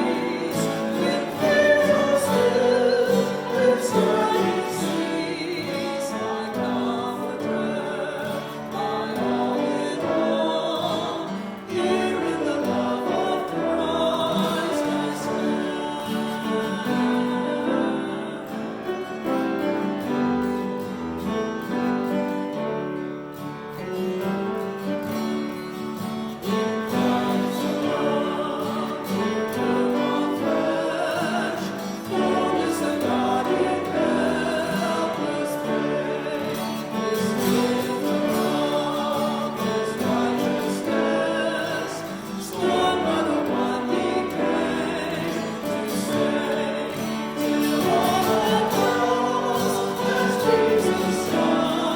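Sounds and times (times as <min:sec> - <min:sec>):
choir singing: 0:00.0 - 0:22.6, 0:26.2 - 0:51.9.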